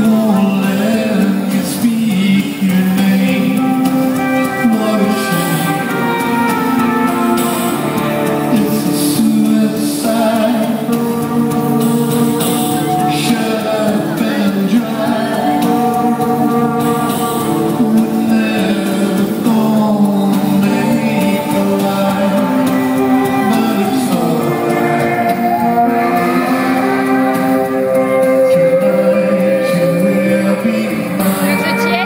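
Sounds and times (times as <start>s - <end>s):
man and woman singing: 0.0s - 6.6s, 8.4s - 32.0s
live band playing: 0.0s - 32.0s.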